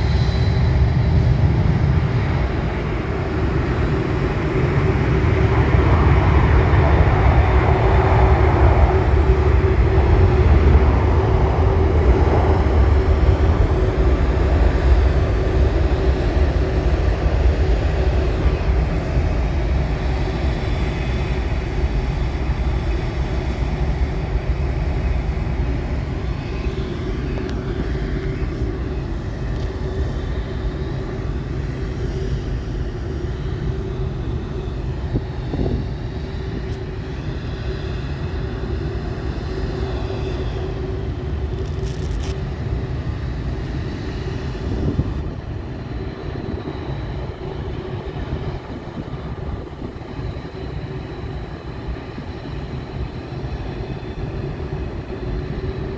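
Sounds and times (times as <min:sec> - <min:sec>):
jet engines rumbling and whining: 0:00.0 - 0:55.9.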